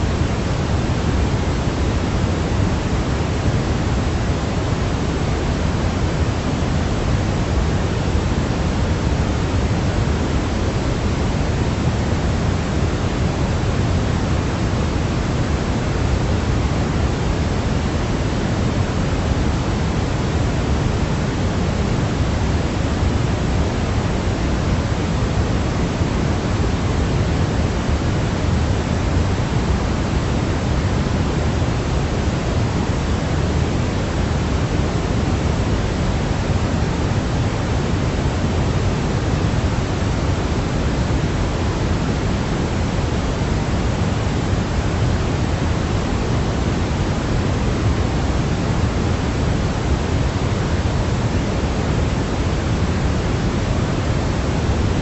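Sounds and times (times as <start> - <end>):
steady pink noise: 0.0 - 55.0.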